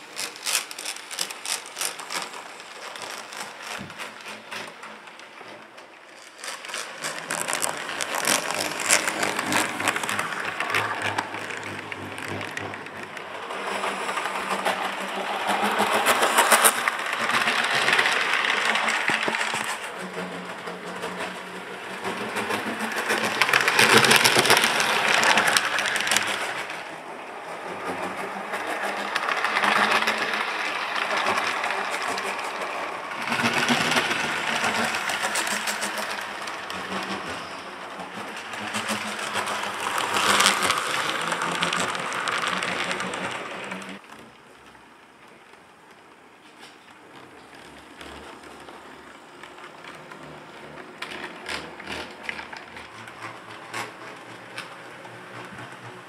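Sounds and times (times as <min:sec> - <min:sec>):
wheels clicking over rails: 0:00.0 - 0:56.0.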